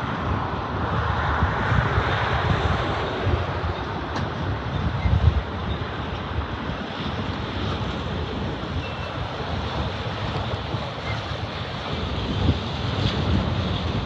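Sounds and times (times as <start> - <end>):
train wheels on rail: 0.0 - 14.0
wind buffeting microphone: 0.0 - 14.0.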